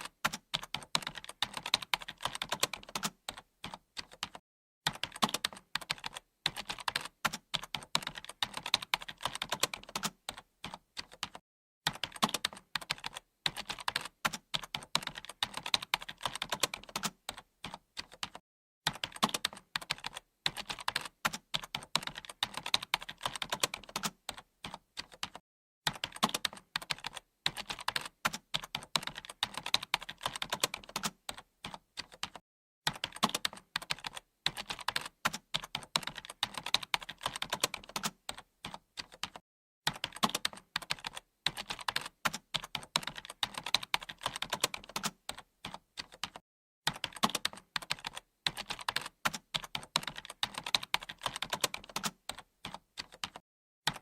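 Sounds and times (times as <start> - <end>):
keyboard typing: 0.0 - 54.0.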